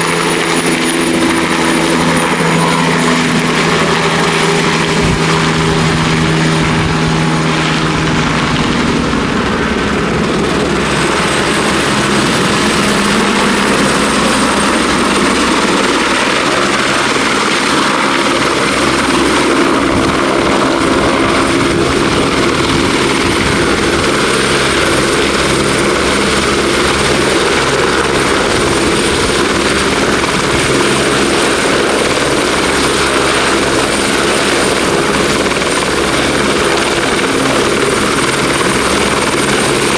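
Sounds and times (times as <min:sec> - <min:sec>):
helicopter rotor noise: 0:00.0 - 0:39.9
high turbine whine: 0:00.0 - 0:39.9.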